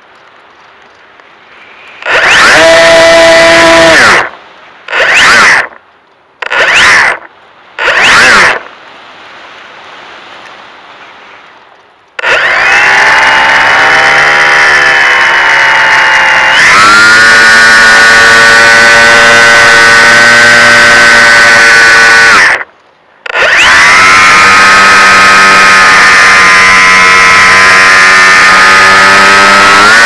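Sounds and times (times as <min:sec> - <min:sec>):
electric motor and propeller whine: 0:01.5 - 0:05.8, 0:06.4 - 0:08.7, 0:12.2 - 0:30.0.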